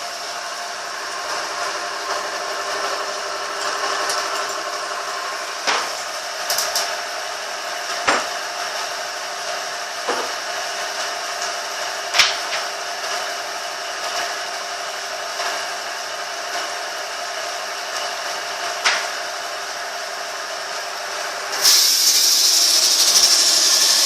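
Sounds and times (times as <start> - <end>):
sawmill machine whining hum: 0.0 - 24.0.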